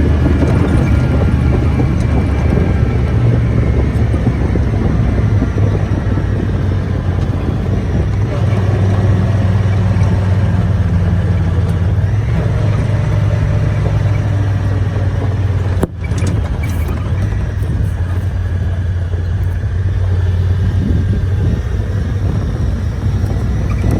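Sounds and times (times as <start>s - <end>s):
road noise: 0.0s - 23.9s
vehicle engine running: 0.0s - 23.9s.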